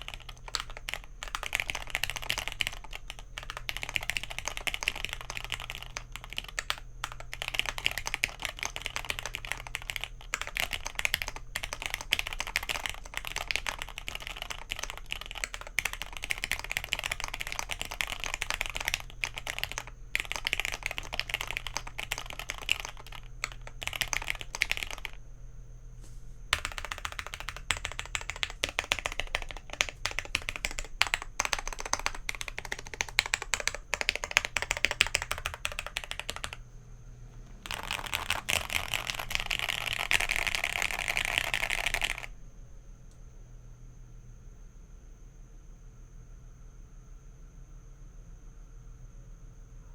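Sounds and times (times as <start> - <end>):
mechanical keyboard typing: 0.0 - 25.2, 26.5 - 36.6, 37.6 - 42.3
faint low hum: 0.0 - 49.9.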